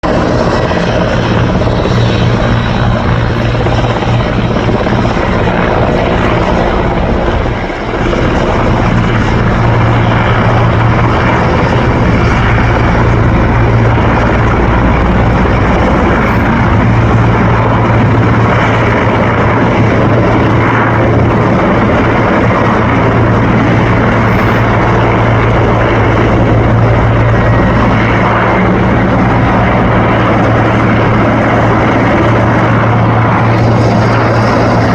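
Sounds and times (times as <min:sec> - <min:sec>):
helicopter rotor and engines: 0:00.0 - 0:34.9.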